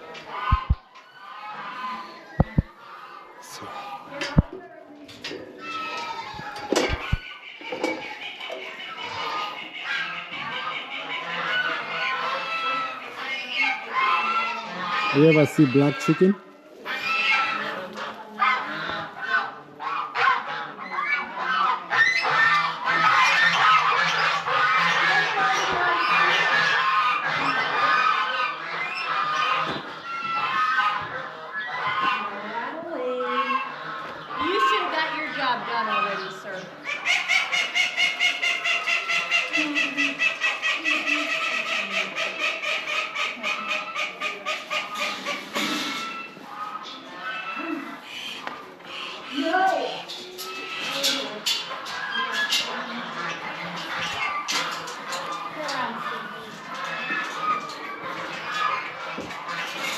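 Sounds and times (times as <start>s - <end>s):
poultry calling: 0.0s - 4.5s, 5.2s - 59.9s.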